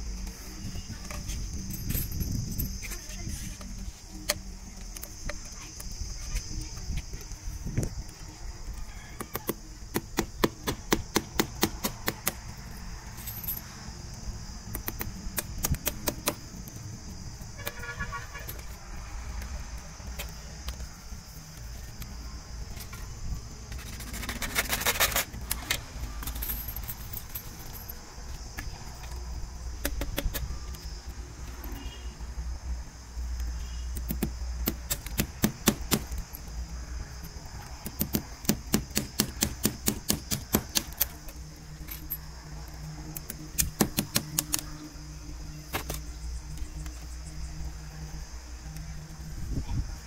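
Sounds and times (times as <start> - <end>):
high insect drone: 0.0 - 50.0.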